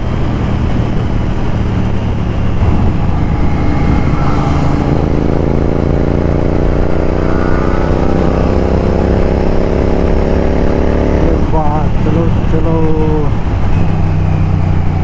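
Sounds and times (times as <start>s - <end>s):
motorcycle engine drone: 0.0s - 15.0s
wind rush: 0.0s - 15.0s.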